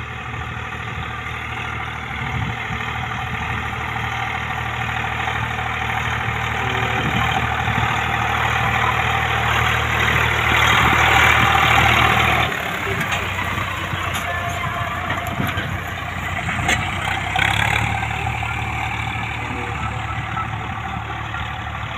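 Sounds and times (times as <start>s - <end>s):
diesel tractor engine running: 0.0s - 21.9s.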